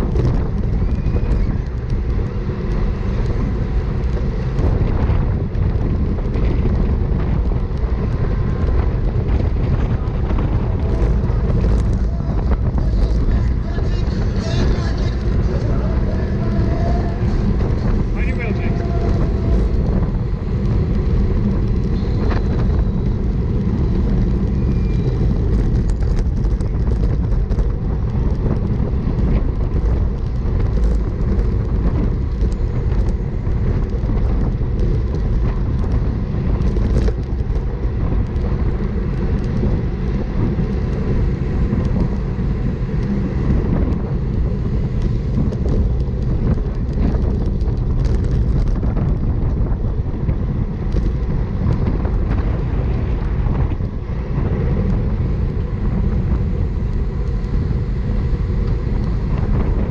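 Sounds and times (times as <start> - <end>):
road noise: 0.0 - 59.9
wind buffeting microphone: 0.0 - 59.9.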